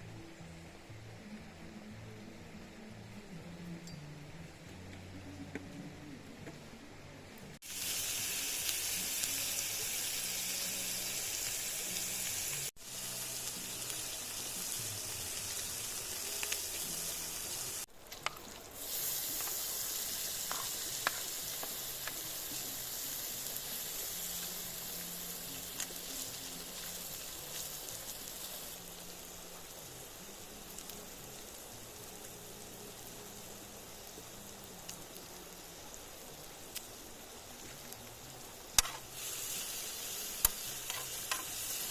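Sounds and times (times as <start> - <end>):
food sizzling in a pan: 7.6 - 41.9.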